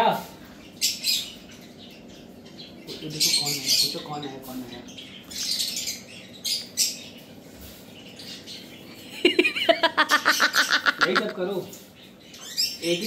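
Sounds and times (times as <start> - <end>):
parakeet harsh chattering calls: 0.6 - 13.0.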